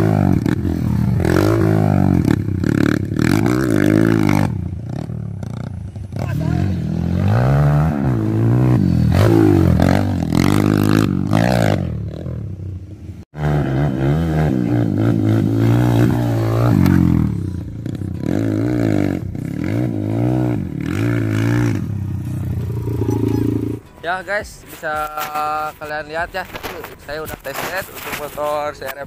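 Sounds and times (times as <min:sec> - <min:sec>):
dirt bike engine revving: 0:00.0 - 0:12.7, 0:13.3 - 0:24.0.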